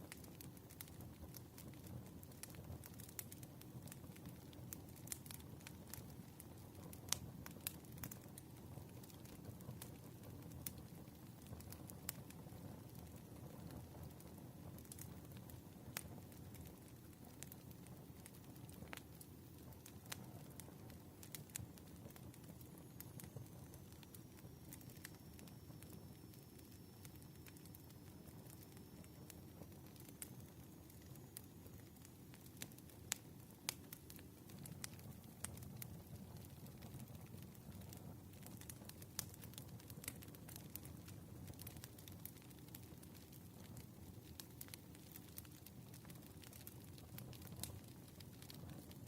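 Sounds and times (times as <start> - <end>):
low rumble of burning logs: 0.0 - 49.0
wood fire crackling and popping: 0.0 - 49.0.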